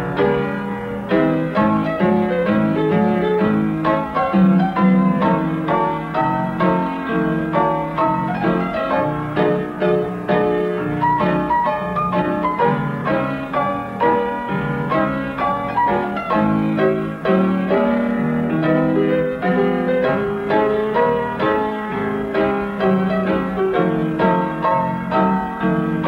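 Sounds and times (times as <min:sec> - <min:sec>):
brisk piano music: 0:00.0 - 0:26.0.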